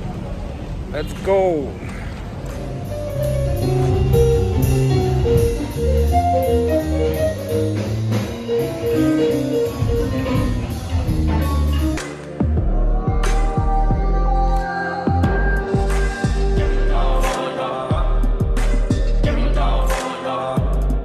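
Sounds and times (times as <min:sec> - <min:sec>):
jazz music: 0:02.6 - 0:21.0.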